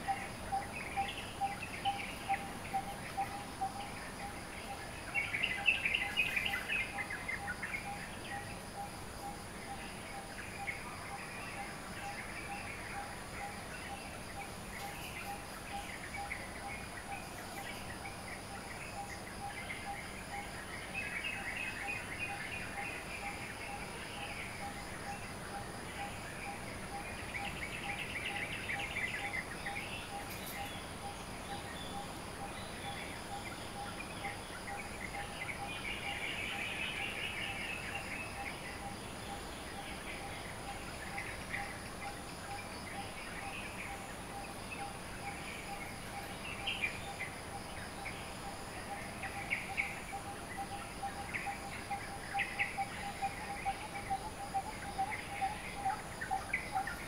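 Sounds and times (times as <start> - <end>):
birds chirping and twittering: 0.0 - 57.0
constant high whine: 0.0 - 57.0.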